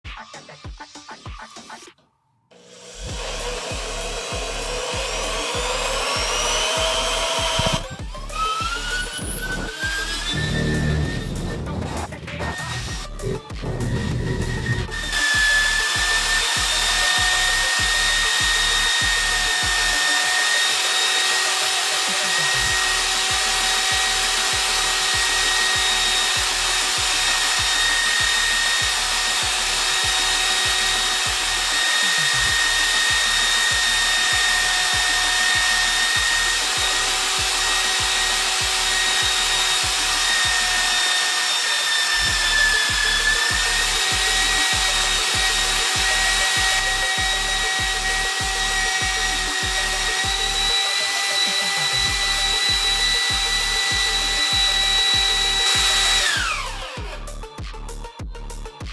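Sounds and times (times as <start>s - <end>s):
electric power tool motor whining: 2.5s - 57.4s.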